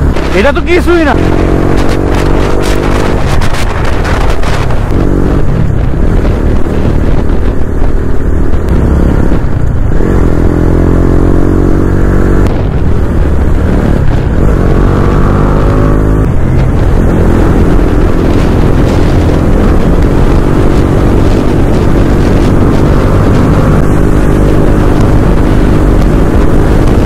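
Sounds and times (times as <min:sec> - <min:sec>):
vehicle engine accelerating: 0:00.0 - 0:27.0.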